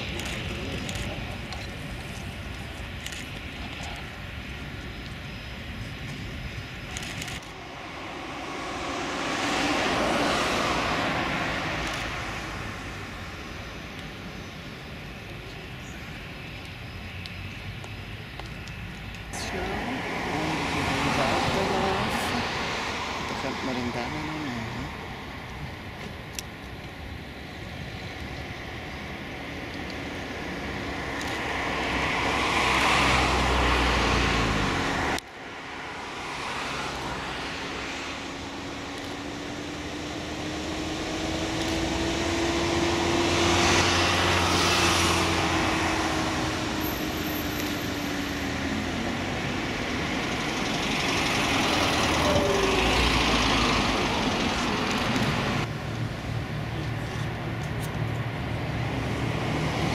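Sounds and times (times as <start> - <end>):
propeller aircraft engines running: 0.0 - 59.9.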